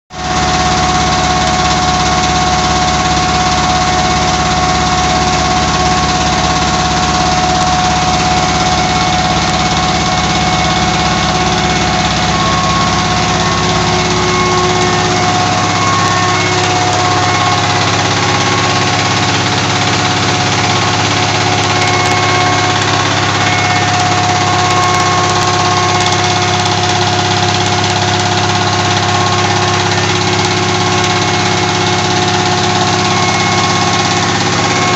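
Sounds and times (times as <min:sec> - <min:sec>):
diesel engine running: 0:00.1 - 0:34.9
high whine of flour mill: 0:00.1 - 0:34.9.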